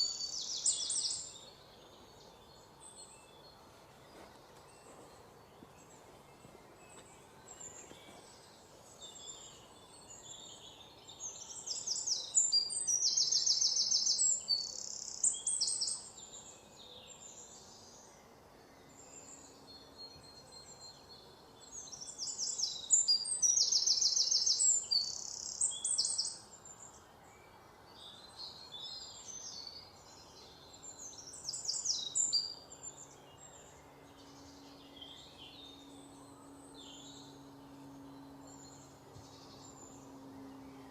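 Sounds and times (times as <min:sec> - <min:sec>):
background noise: 0:00.0 - 0:40.9.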